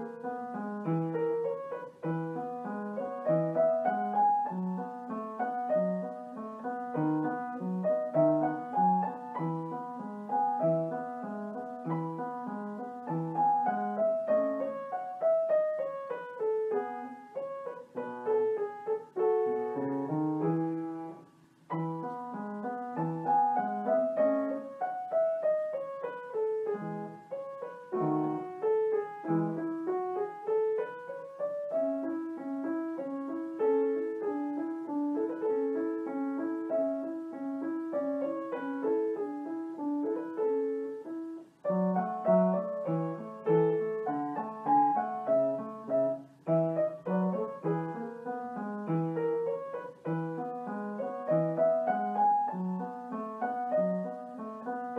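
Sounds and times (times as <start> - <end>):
solo piano music: 0.0 - 54.9.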